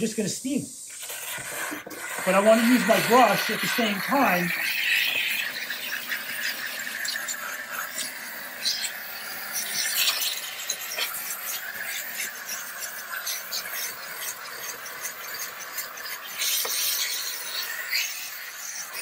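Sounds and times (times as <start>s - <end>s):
steam hissing: 0.0s - 19.0s.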